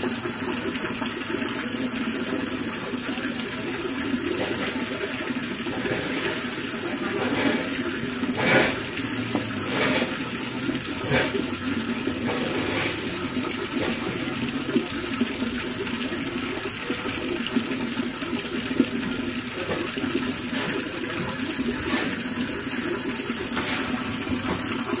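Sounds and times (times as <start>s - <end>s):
fish splashing at water surface: 4.2s - 17.6s, 18.4s - 25.0s.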